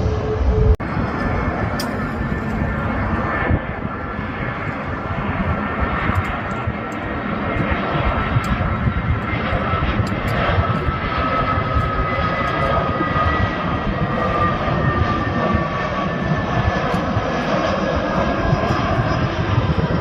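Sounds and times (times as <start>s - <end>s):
airliner engines whining: 0.0s - 20.0s.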